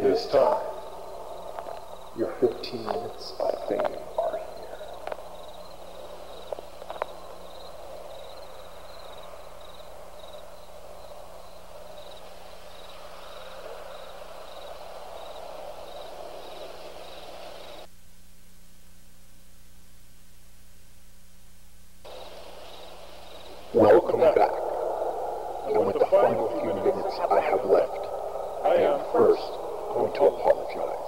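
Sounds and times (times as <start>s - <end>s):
high chirping: 0.0s - 17.9s, 22.1s - 31.0s
steady hiss: 0.0s - 31.0s.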